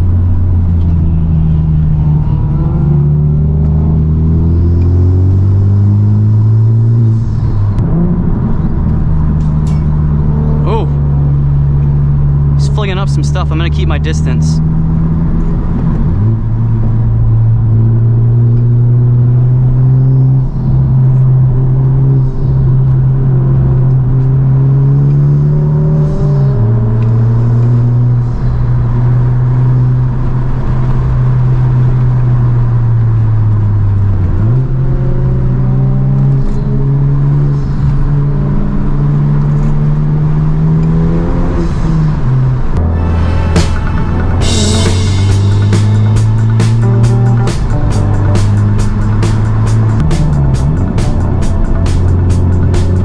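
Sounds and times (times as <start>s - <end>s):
car engine revving in cabin: 0.0s - 53.0s.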